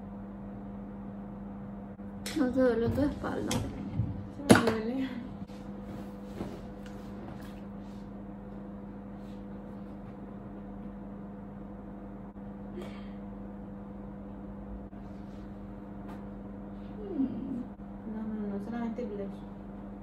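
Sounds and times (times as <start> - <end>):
air conditioner hum: 0.0 - 20.0.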